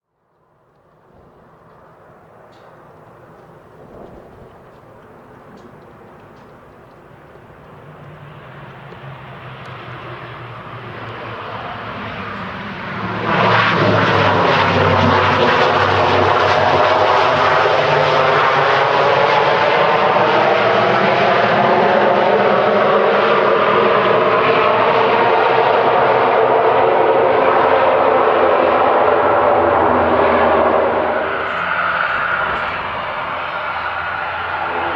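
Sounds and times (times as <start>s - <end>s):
turboprop aircraft engines and propellers: 0.2s - 34.9s.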